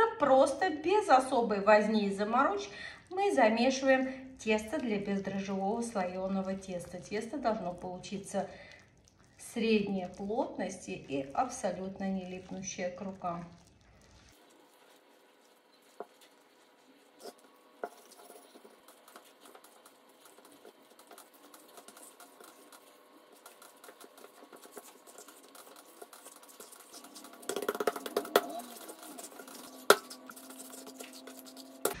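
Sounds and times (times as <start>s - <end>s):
hands kneading dough: 4.5s - 32.0s.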